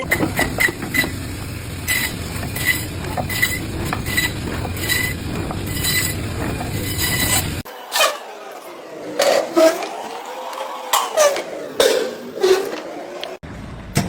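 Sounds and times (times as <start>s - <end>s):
machinery rumbling: 0.0s - 14.0s.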